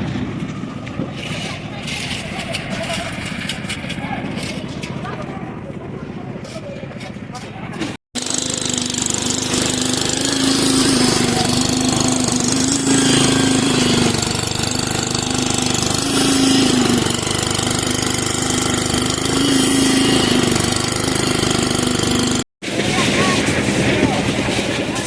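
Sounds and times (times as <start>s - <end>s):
machine engine humming loudly: 0.0s - 25.0s.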